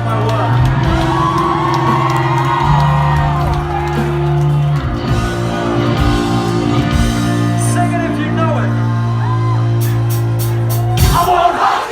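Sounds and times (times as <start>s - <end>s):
live rock band playing: 0.0s - 11.5s
crowd shouting and whooping: 0.0s - 11.9s.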